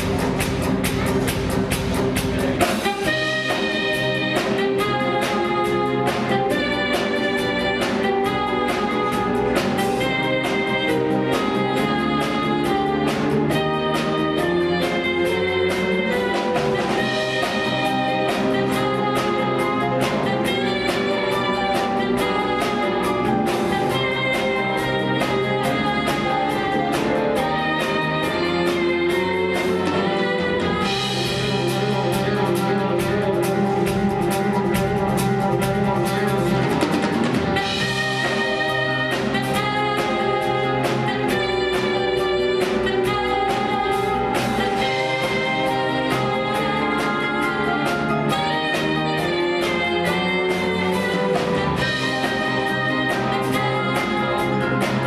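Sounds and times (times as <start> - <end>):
instrumental show music: 0.0 - 55.0.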